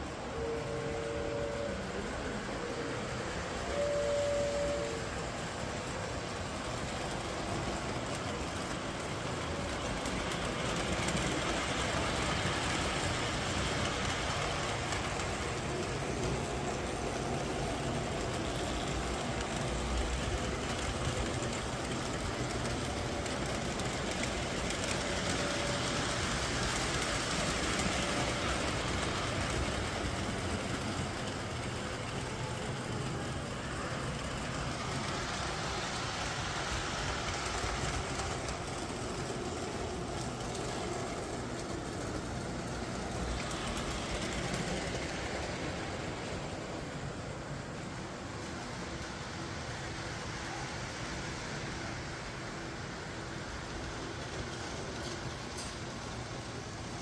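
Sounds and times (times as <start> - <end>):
model trains rumbling on track: 0.0 - 57.0.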